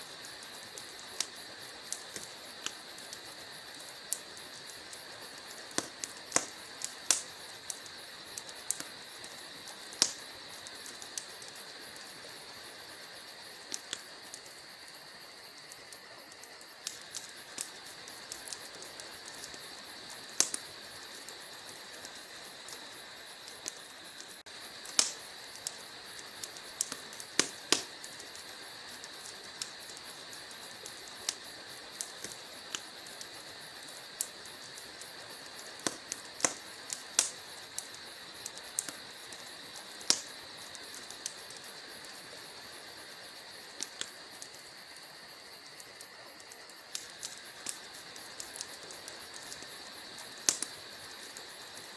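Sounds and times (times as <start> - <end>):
fire crackling and popping: 0.0 - 51.9
fire soft hiss: 0.0 - 51.9.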